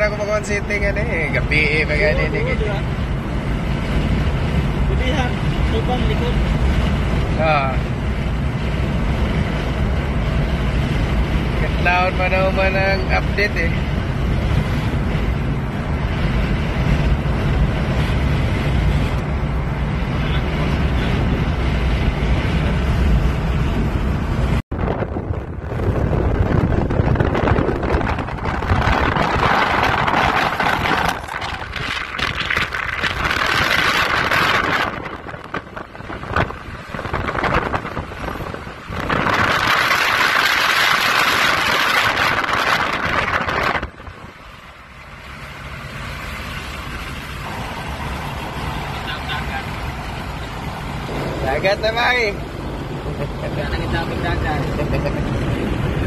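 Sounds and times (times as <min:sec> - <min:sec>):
road and engine rumble: 0:00.0 - 0:56.0
rushing wind noise: 0:00.0 - 0:56.0.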